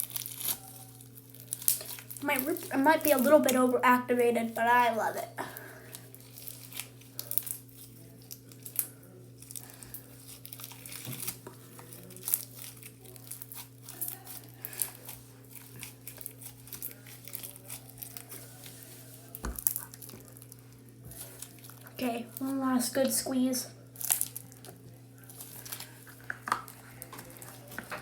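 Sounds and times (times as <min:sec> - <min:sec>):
slime crackling and popping: 0:00.0 - 0:03.9, 0:05.9 - 0:18.6, 0:19.3 - 0:22.5, 0:23.9 - 0:28.0.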